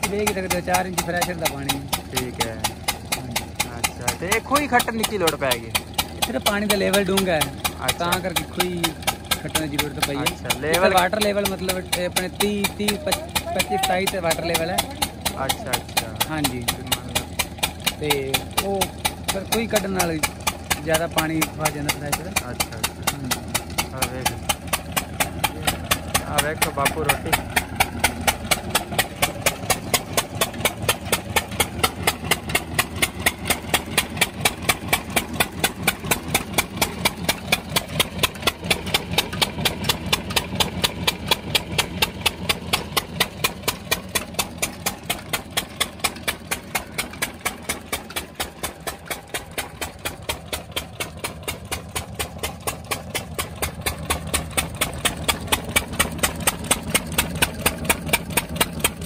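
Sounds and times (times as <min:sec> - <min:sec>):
diesel engine knocking steadily: 0:00.0 - 0:59.0.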